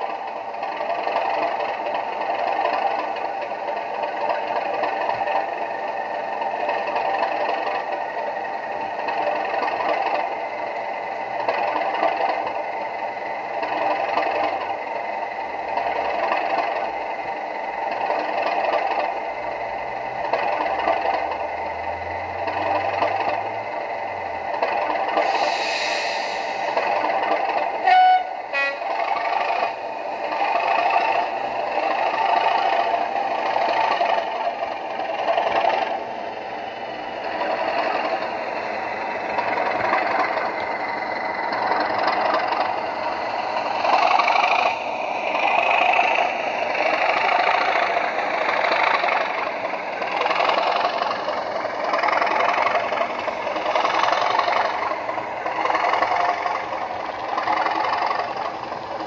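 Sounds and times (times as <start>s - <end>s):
model train diesel engine sound: 0.0s - 59.0s
turbocharger whine: 0.0s - 59.0s.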